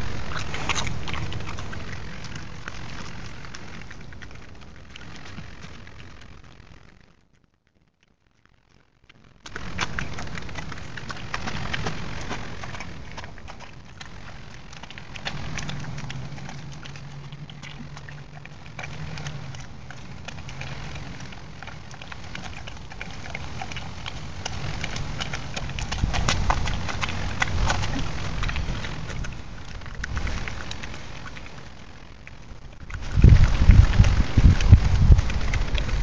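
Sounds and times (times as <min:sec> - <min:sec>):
bear chewing and crunching food: 0:00.0 - 0:36.0.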